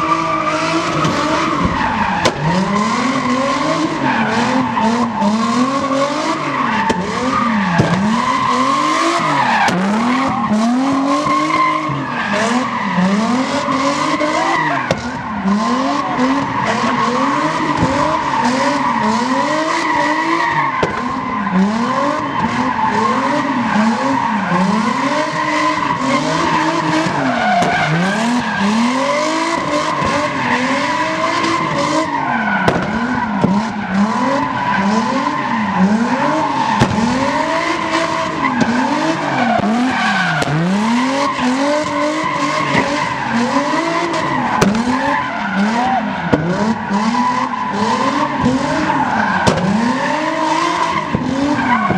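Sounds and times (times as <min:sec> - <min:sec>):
engine revving: 0:00.0 - 0:51.9
tires squealing: 0:00.0 - 0:51.9.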